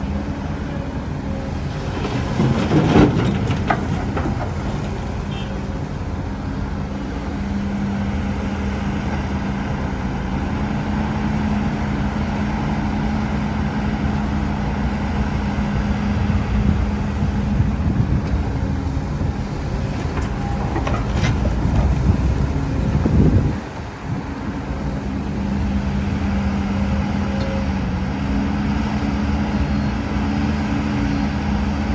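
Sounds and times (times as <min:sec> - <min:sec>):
diesel engine droning: 0:00.0 - 0:31.9.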